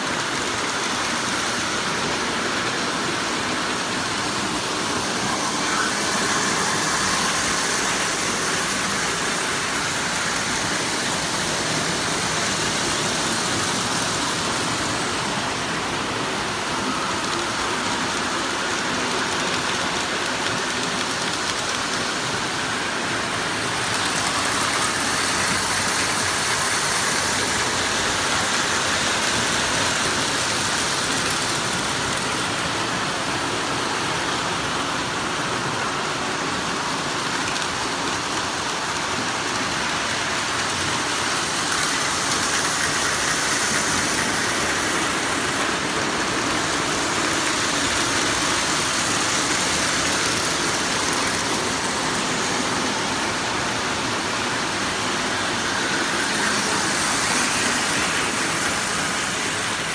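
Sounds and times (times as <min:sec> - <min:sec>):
toy trains rumbling on metal track: 0:00.0 - 0:59.9.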